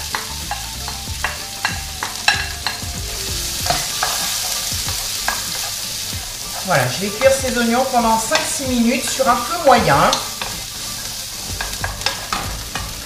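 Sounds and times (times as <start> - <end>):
wooden spatula knocking and scraping: 0.0 - 10.8, 11.5 - 13.0
onion sizzling in hot oil: 0.0 - 13.0.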